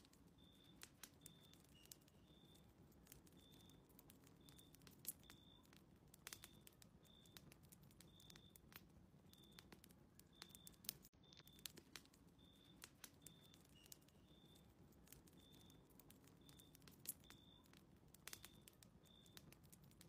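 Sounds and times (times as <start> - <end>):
faint fireplace crackling: 0.0 - 20.0.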